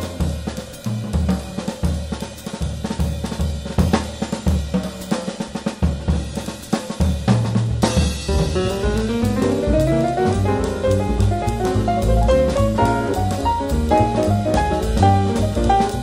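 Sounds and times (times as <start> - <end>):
jazz drum solo: 0.0 - 16.0.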